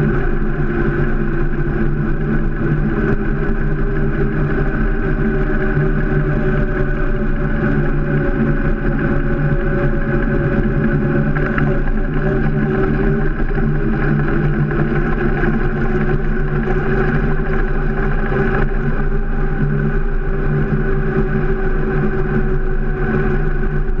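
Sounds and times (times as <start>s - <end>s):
bike tyres rolling on asphalt: 0.0s - 24.0s
wind buffeting microphone: 0.0s - 24.0s.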